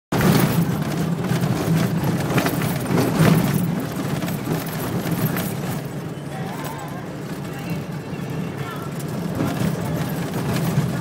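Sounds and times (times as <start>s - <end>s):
road noise: 0.1s - 11.0s
vehicle engine drone: 0.1s - 11.0s.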